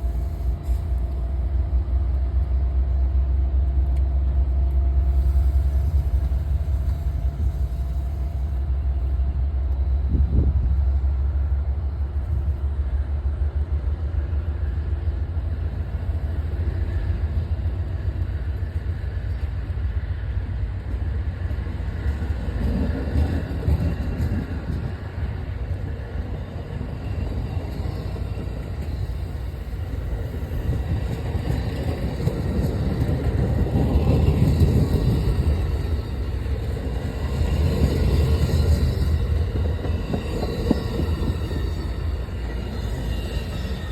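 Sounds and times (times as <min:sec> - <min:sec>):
passenger train passing: 0:00.0 - 0:43.9.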